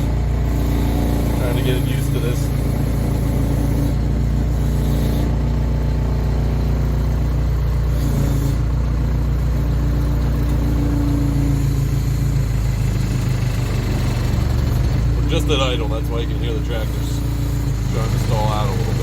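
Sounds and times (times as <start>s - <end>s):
backhoe diesel engine lugging: 0.0s - 19.0s.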